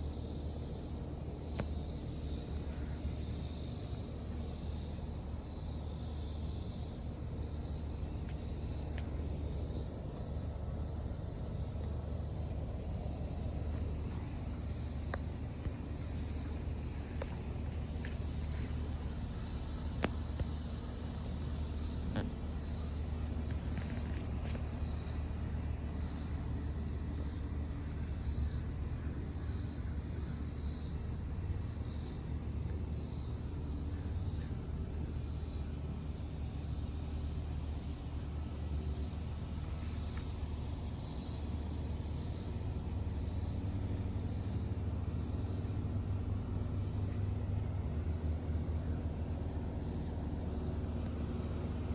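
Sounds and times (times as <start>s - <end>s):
insects chirping: 0.0s - 51.9s
low steady rumble: 0.0s - 51.9s.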